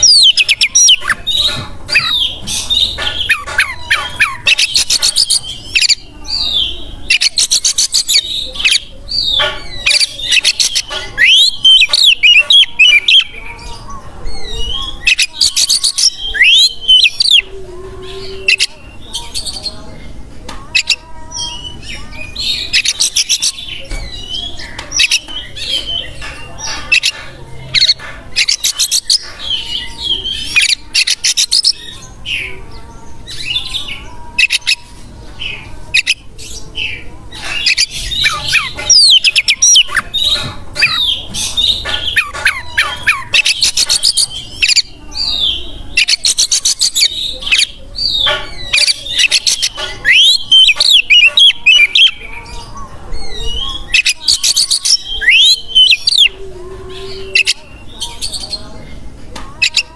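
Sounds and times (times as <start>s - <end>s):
bird singing trills and whistles: 0.0s - 19.8s, 20.7s - 58.8s.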